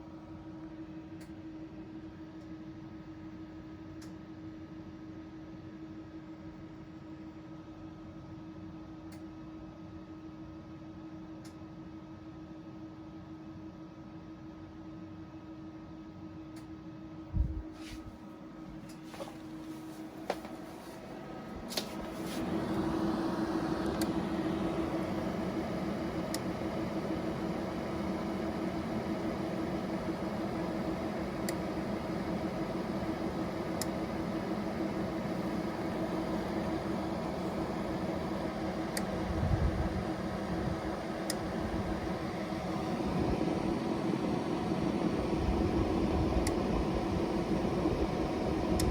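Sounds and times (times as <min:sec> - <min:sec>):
cooling fan humming: 0:00.0 - 0:48.9.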